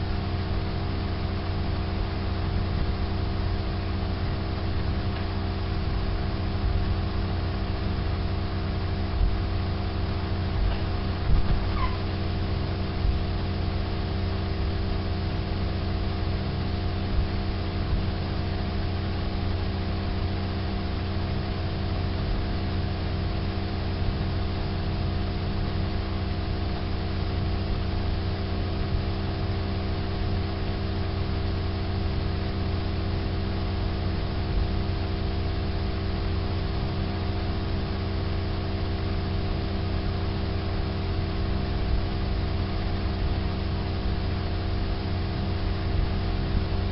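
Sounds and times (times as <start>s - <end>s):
steady machine hum: 0.0s - 46.9s.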